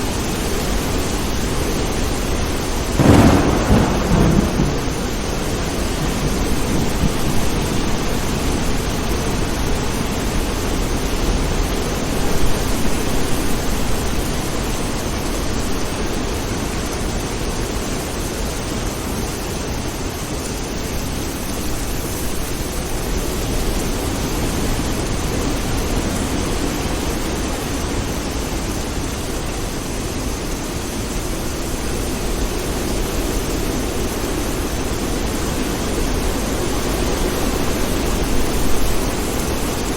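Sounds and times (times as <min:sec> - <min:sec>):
heavy rain rushing: 0:00.0 - 0:39.9.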